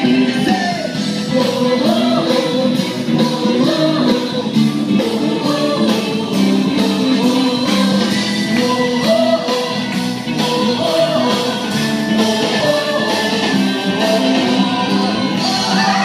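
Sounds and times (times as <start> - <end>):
upbeat song with vocals: 0.0 - 16.0.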